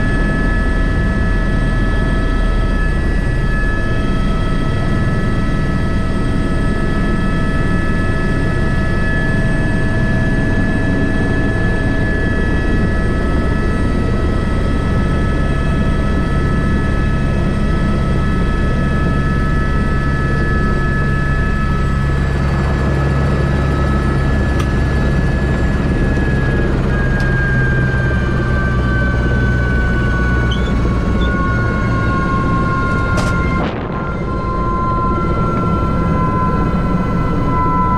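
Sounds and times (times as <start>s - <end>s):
helicopter rotor beat: 0.0s - 37.9s
high turbine whine: 0.0s - 37.9s.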